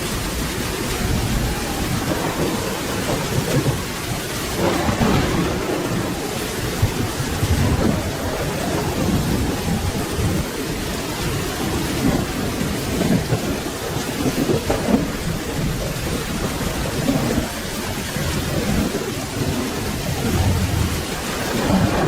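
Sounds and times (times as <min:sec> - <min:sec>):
rolling thunder rumble: 0:00.0 - 0:22.0
steady rain falling: 0:00.0 - 0:22.0.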